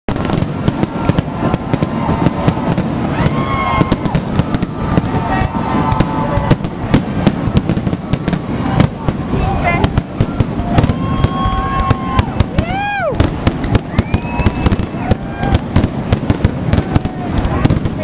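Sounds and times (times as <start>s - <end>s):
firework whistling: 0.1s - 18.0s
fireworks bangs and crackles: 0.1s - 18.0s.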